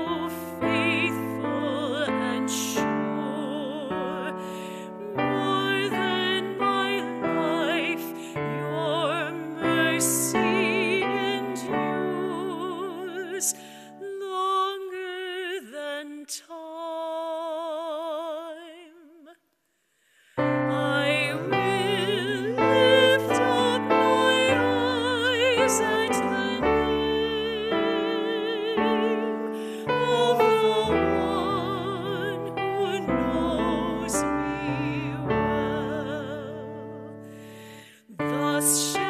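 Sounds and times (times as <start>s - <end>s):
piano accompaniment: 0.0s - 13.9s, 20.4s - 39.0s
woman singing a hymn: 0.0s - 19.4s, 20.4s - 37.1s, 37.9s - 39.0s.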